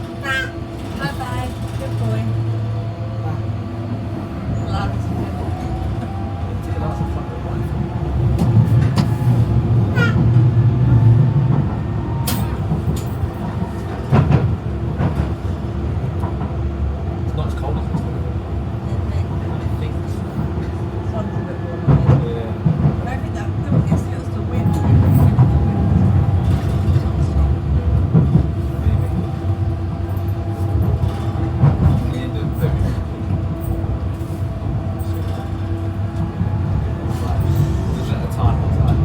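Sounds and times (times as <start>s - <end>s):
train rumbling inside carriage: 0.0s - 39.0s.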